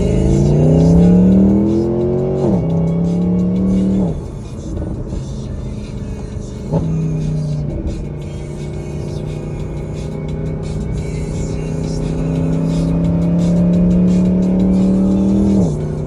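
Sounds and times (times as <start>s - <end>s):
sports car engine accelerating: 0.0s - 16.0s.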